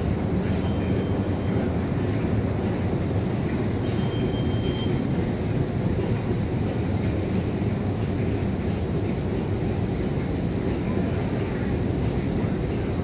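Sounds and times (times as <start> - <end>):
subway station rumble: 0.0 - 13.0.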